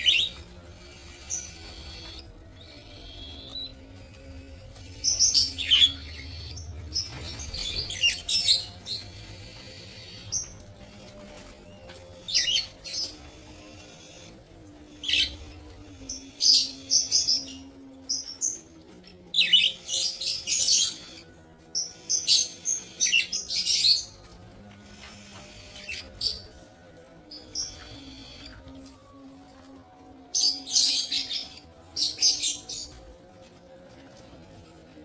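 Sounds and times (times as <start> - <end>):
budgerigars chirping and chattering: 0.0 - 35.0.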